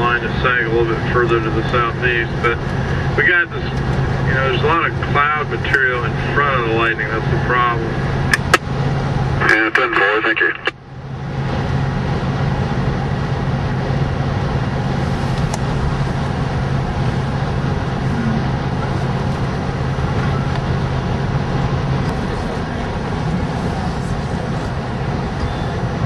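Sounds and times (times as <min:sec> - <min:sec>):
van engine and road noise: 0:00.0 - 0:26.0.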